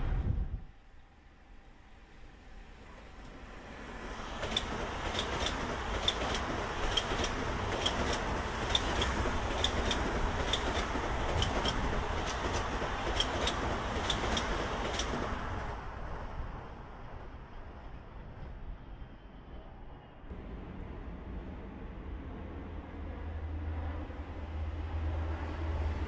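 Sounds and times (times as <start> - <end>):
train rushing rumble: 0.0 - 0.7, 1.4 - 26.0.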